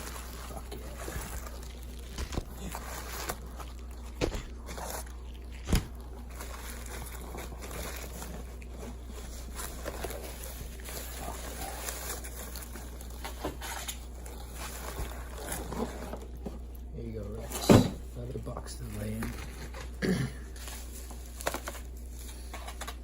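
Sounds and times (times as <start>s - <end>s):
packaging rustling and crinkling: 0.0s - 16.8s, 18.4s - 23.0s.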